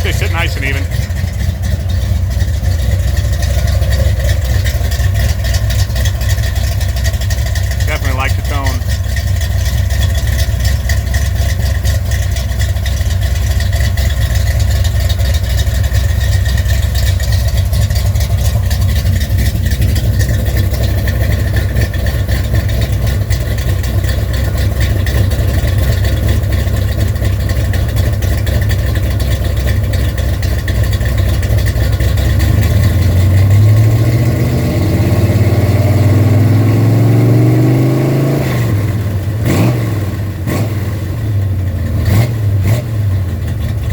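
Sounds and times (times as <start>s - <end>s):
engine idling and revving: 0.0s - 43.9s.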